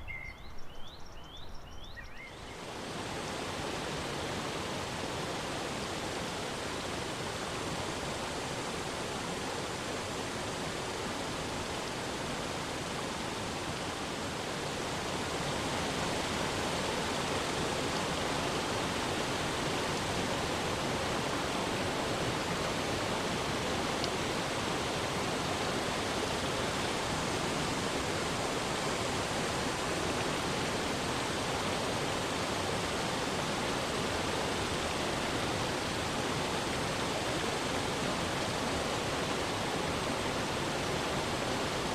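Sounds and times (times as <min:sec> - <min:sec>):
waterfall cascading over rocks: 0:02.6 - 0:41.9.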